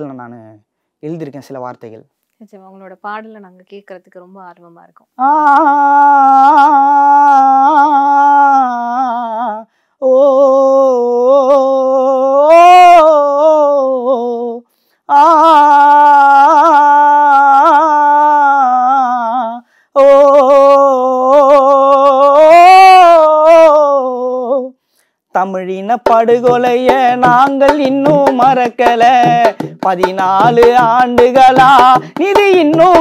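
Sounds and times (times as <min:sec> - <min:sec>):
man singing wordless melody: 0:05.0 - 0:33.0.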